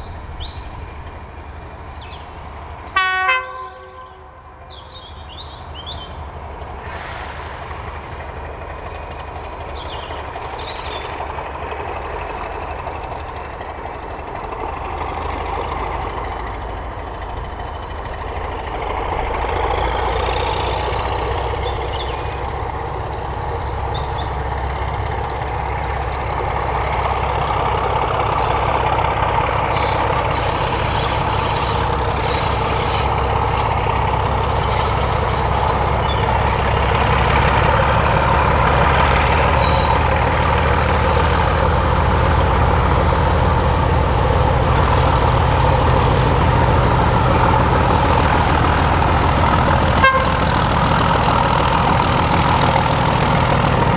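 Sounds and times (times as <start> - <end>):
diesel locomotive engine approaching: 0.0 - 53.9.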